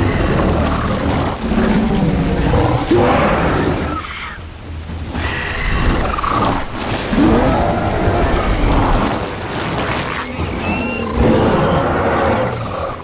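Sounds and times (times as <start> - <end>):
giant ape roaring and grunting: 0.0 - 4.2, 5.1 - 13.0
heavy water splashing: 0.0 - 13.0.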